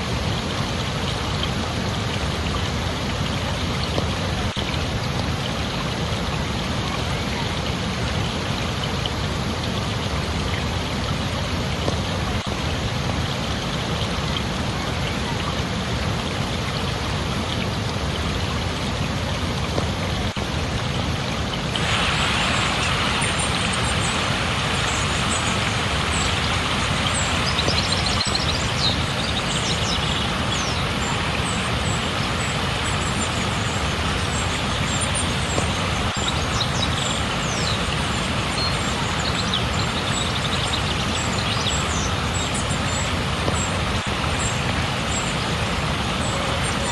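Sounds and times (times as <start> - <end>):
flowing water rushing: 0.0 - 46.9.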